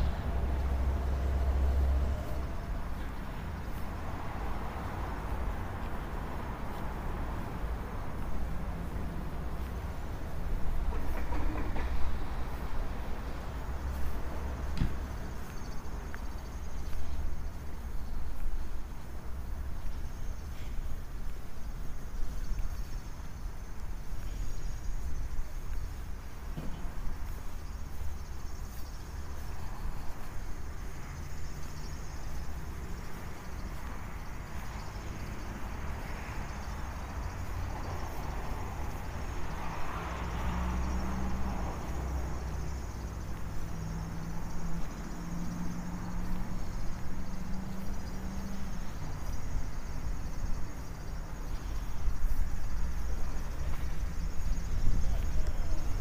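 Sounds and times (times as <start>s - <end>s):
vehicle passing: 0.0s - 17.8s, 27.3s - 56.0s.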